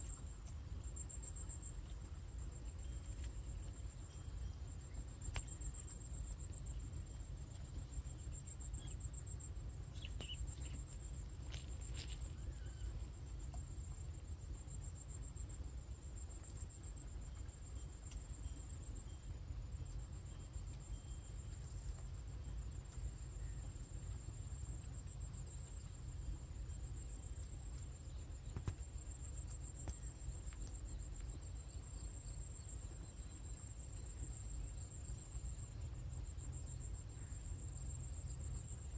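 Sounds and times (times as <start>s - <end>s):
insects chirring: 0.0s - 38.9s
low steady rumble: 0.0s - 38.9s.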